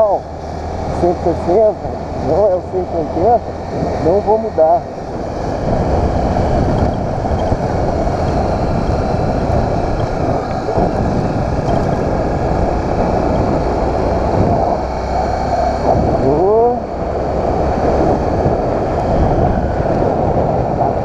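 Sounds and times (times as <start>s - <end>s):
motorcycle engine running: 0.0s - 21.0s
wind noise: 0.0s - 21.0s.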